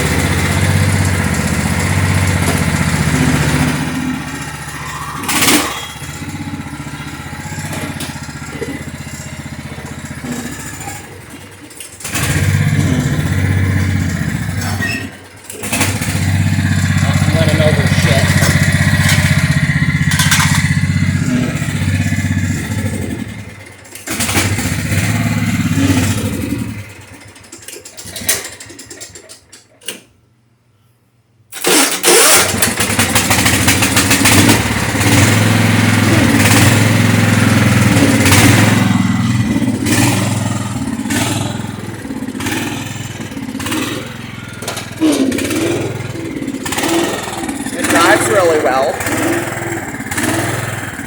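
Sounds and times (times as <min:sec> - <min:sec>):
lawn tractor engine running: 0:00.0 - 0:29.9, 0:31.5 - 0:51.0
engine sputtering out: 0:00.0 - 0:30.0, 0:31.5 - 0:51.0.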